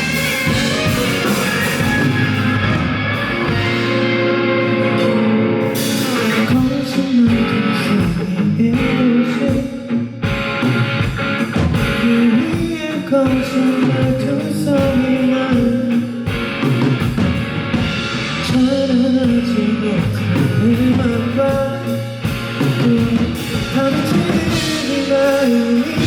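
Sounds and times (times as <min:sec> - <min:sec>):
person singing: 0:00.0 - 0:10.1, 0:11.8 - 0:16.3, 0:18.4 - 0:26.0
live rock band: 0:00.0 - 0:26.0.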